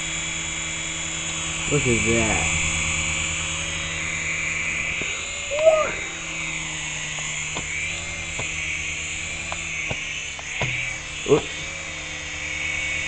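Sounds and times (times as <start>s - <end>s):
rotors humming: 0.0s - 13.0s
toy helicopter motors whining: 0.0s - 13.0s.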